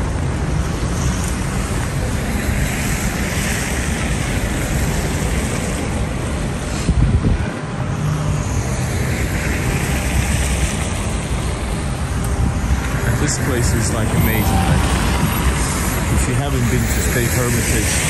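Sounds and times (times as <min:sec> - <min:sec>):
city traffic passing: 0:00.0 - 0:18.0
wind buffeting microphone: 0:00.0 - 0:18.0.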